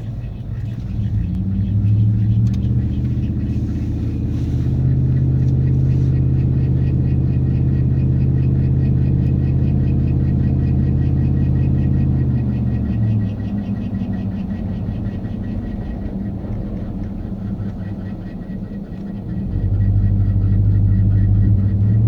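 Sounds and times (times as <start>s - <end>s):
faint rhythmic pulsing: 0.0s - 22.0s
low grinding drone: 0.0s - 22.0s.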